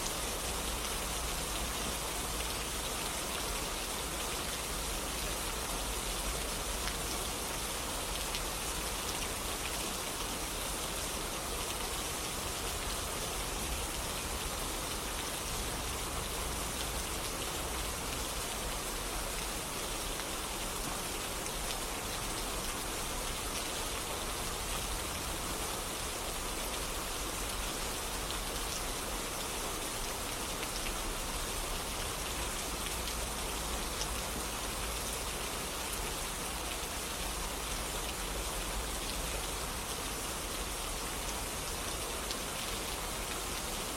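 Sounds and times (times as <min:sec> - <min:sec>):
steady rainfall: 0:00.0 - 0:43.9.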